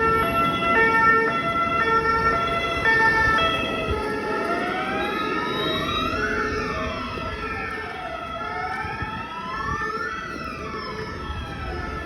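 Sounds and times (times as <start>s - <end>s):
two-tone siren: 0.0s - 12.0s
wailing siren: 0.0s - 12.0s.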